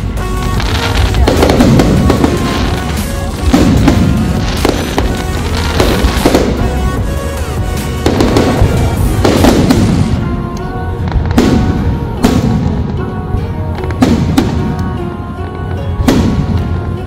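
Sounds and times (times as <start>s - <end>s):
fireworks bursting with bangs: 0.0s - 17.0s
music: 0.0s - 17.0s.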